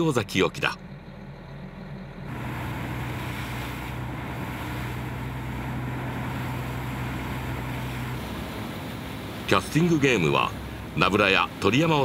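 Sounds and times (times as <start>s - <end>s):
boat engine humming: 0.0s - 12.0s
water rushing from wake: 2.2s - 12.0s.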